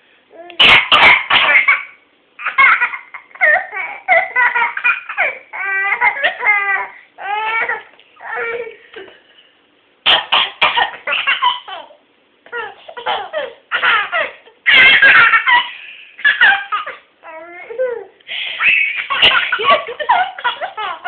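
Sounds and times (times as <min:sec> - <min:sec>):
baby laughing and squealing: 0:00.6 - 0:08.7, 0:11.0 - 0:21.0.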